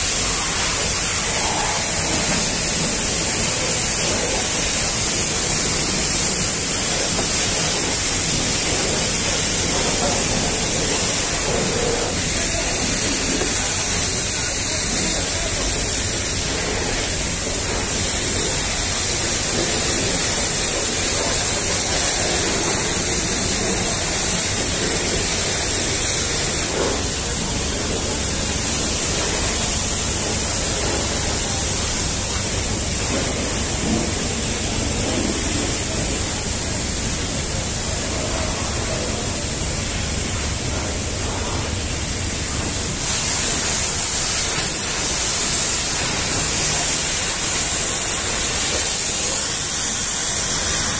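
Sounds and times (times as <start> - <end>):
pressure washer spraying water: 0.0 - 50.9.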